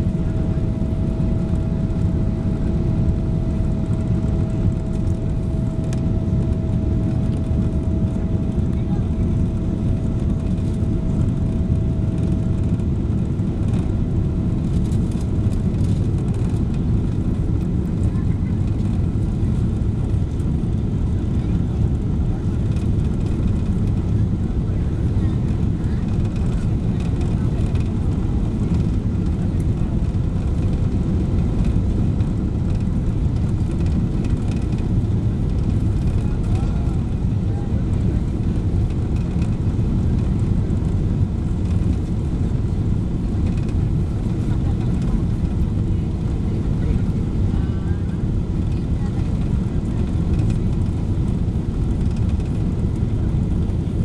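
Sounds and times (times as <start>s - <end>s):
airplane cabin roar: 0.0s - 54.0s.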